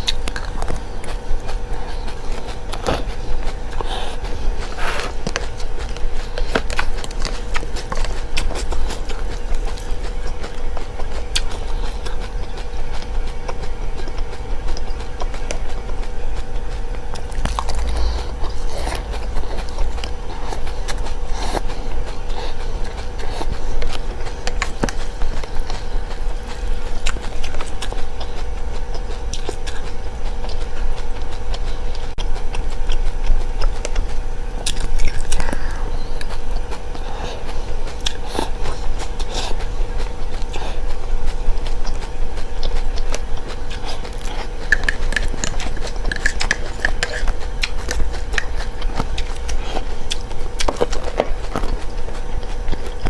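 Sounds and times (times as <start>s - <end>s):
chewing and crunching seeds: 0.0s - 53.0s
steady hum and low rumble: 0.0s - 53.0s.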